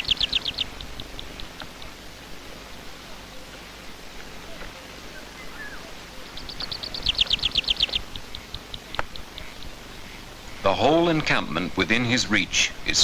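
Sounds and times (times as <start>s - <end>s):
songbird high trill: 0.0s - 11.8s
soft steady hiss: 0.0s - 13.0s.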